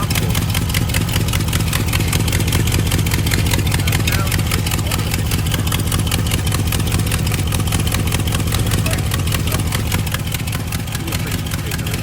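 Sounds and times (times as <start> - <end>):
engine idling: 0.0 - 12.0
rapid even ticking: 0.0 - 12.0.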